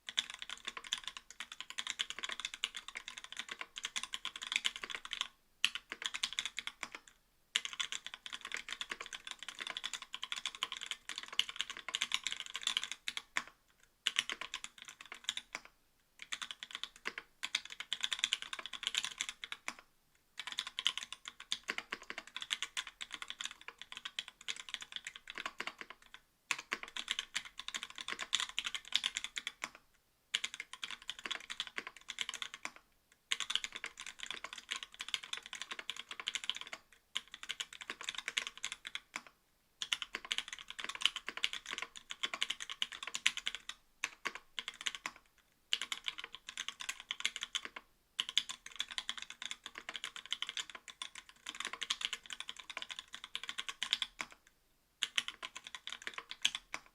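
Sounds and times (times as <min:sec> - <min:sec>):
typing on mechanical keyboard: 0:00.0 - 0:56.9.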